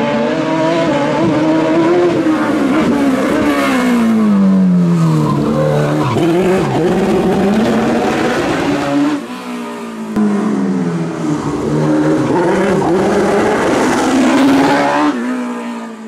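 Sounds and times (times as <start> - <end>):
race car engine at high revs: 0.0 - 16.0.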